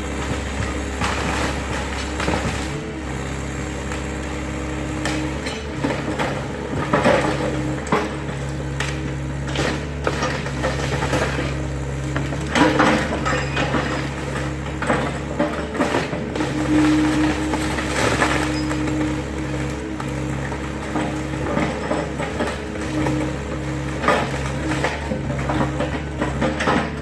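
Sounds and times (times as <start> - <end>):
debris crunching and clattering: 0.0 - 2.8, 5.0 - 27.0
excavator engine running: 0.0 - 27.0.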